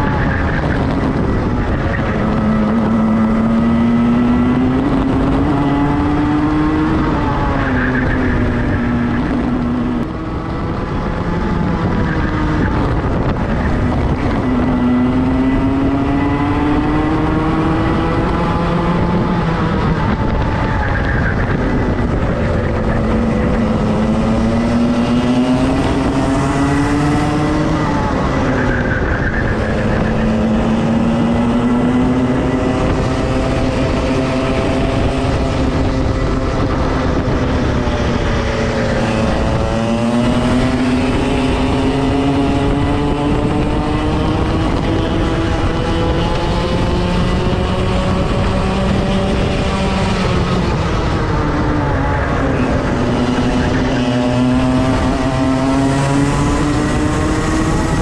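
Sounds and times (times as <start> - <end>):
racing kart engine at full throttle: 0.0 - 58.0.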